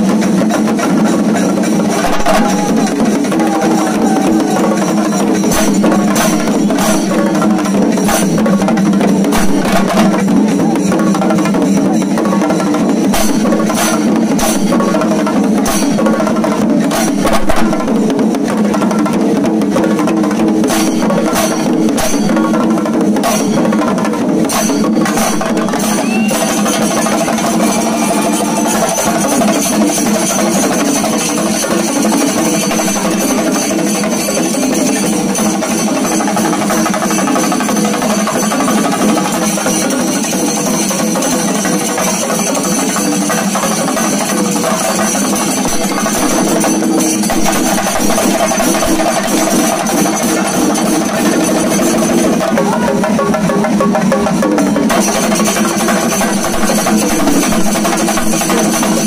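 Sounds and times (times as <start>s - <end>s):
brass hand cymbals clashing: 0.0s - 17.3s, 20.6s - 52.6s, 54.8s - 59.0s
drums beaten rapidly with sticks: 0.0s - 59.0s.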